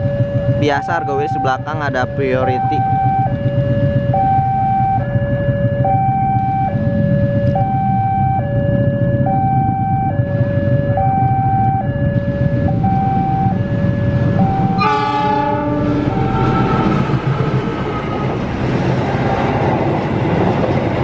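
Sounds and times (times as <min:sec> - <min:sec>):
two-tone crossing alarm: 0:00.0 - 0:17.5
diesel train rumble: 0:00.0 - 0:21.0.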